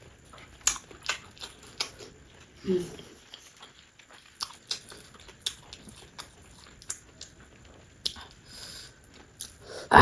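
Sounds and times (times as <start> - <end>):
chewing food: 0.0 - 9.6.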